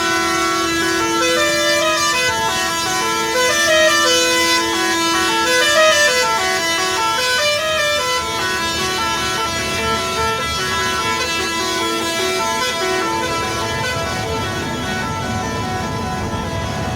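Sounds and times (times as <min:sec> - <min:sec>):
musical truck horn playing a tune: 0:00.0 - 0:16.9.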